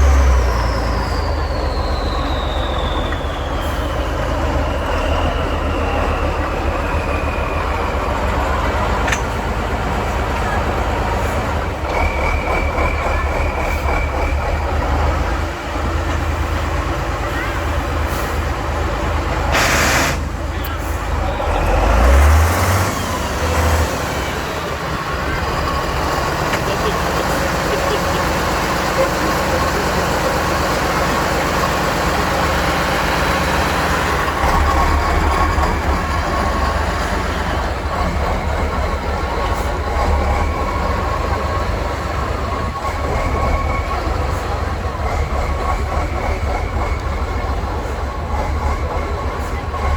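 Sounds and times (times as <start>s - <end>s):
heavy truck engine rumbling: 0.0s - 49.9s.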